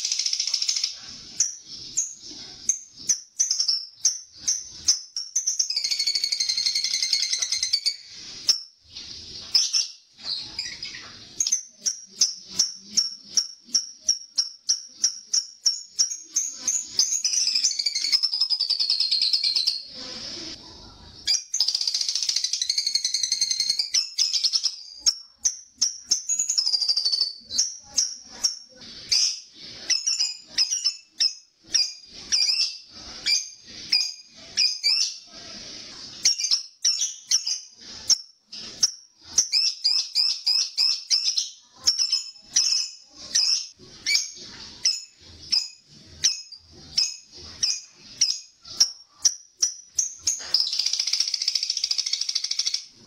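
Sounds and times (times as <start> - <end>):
lovebird chattering: 0.0 - 20.6, 21.2 - 53.0.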